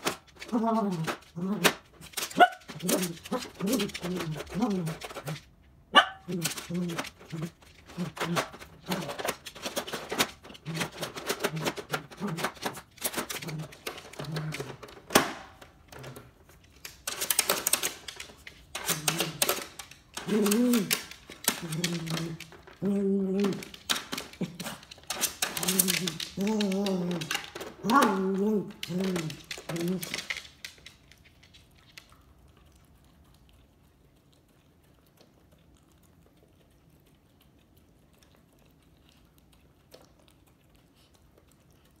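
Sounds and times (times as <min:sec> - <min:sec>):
dog crunching kibble: 0:00.0 - 0:42.0.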